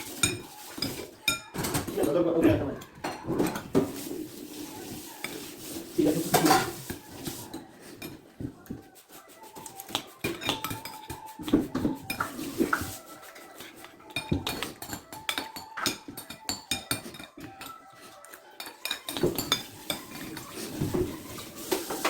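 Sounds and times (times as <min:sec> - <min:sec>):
metal utensils clinking on dishes: 0:00.0 - 0:08.5, 0:09.6 - 0:22.0.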